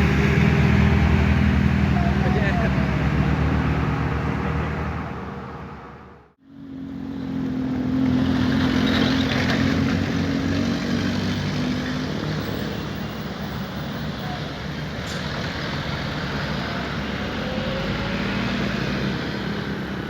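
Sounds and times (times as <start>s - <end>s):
bus engine drone: 0.0s - 20.0s
road noise: 0.0s - 20.0s.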